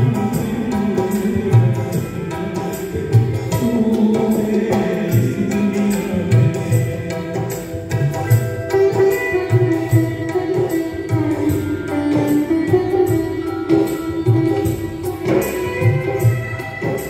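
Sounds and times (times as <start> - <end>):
sitar melody: 0.0 - 17.0
tabla and drum rhythm: 0.0 - 17.0.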